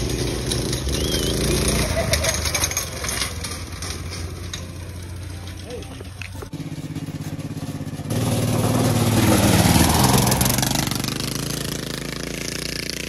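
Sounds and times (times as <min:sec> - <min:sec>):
go-kart engine revving: 0:00.0 - 0:13.0
tyres kicking up gravel: 0:00.0 - 0:13.0.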